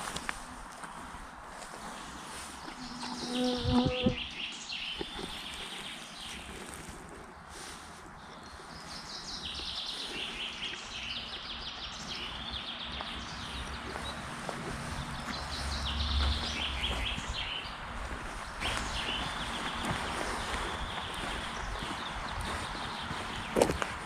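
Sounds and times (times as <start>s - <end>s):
songbirds trilling: 1.8s - 24.0s.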